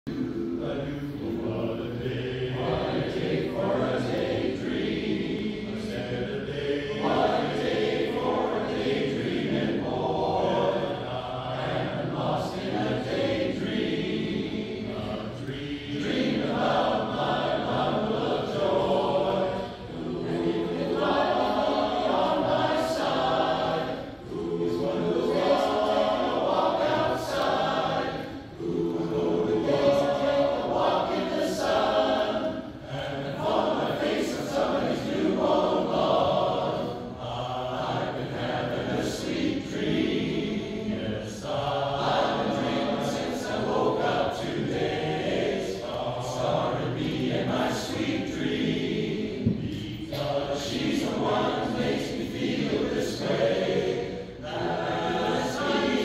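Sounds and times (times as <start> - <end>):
chorus singing in close harmony: 0.1 - 56.0.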